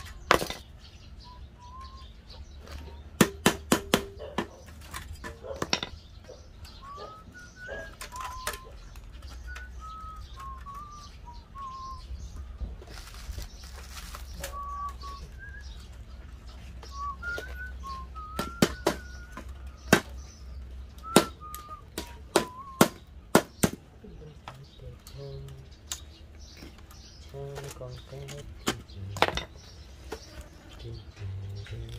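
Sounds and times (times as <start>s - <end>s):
birds chirping: 0.0s - 31.9s.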